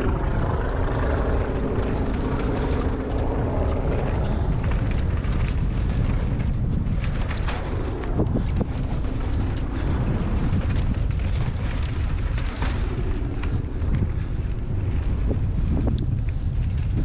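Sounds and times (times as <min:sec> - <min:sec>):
wind buffeting microphone: 0:00.0 - 0:17.0
bicycle clicks and rattles: 0:00.2 - 0:17.0.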